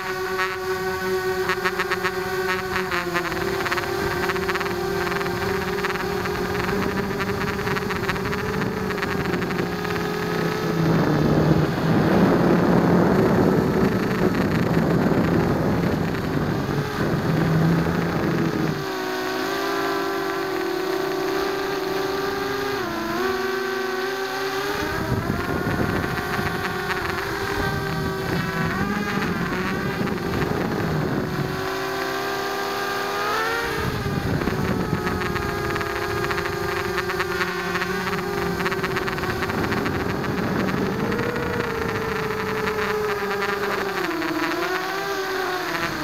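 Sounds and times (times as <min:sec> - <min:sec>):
quadcopter motors whining: 0:00.0 - 0:46.0.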